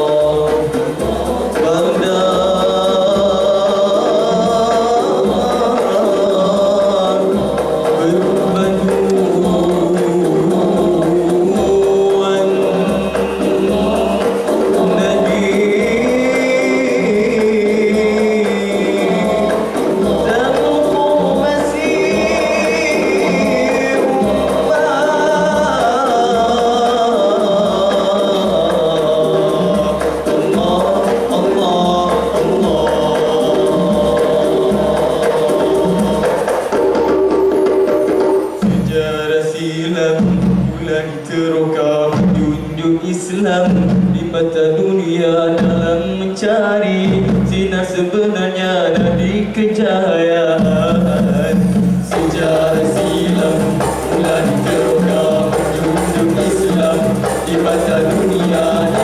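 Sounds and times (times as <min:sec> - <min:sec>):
male vocal group singing: 0:00.0 - 0:37.8, 0:38.6 - 0:59.0
hand drums beat: 0:00.0 - 0:41.3, 0:42.0 - 0:59.0.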